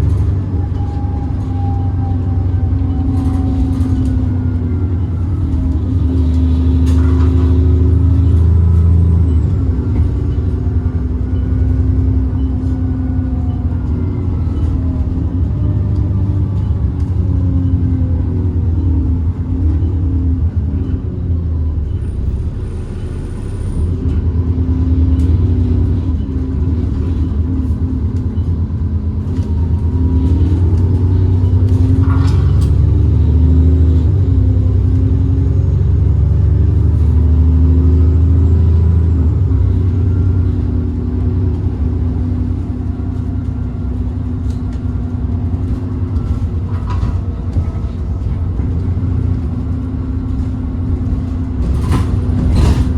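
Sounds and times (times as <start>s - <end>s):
bus diesel engine accelerating: 0.0s - 52.9s.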